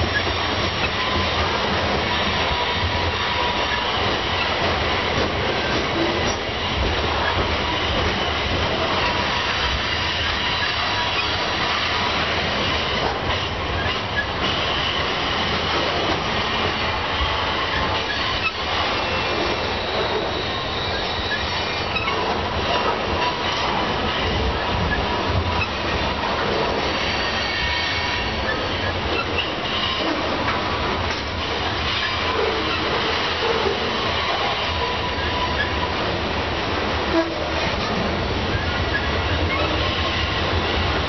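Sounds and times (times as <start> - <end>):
wheel squeal on rail: 0.0 - 36.4, 37.0 - 41.0
freight train cars rumbling: 0.0 - 41.0.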